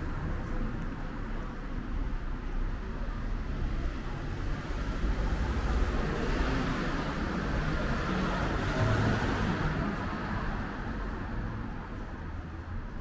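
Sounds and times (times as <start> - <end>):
cars passing with low rumble: 0.0 - 13.0.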